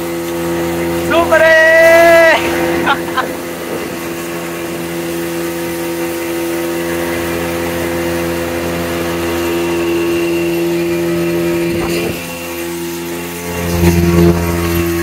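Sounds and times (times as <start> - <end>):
rushing water: 0.0 - 15.0
speedboat engine running: 0.0 - 15.0.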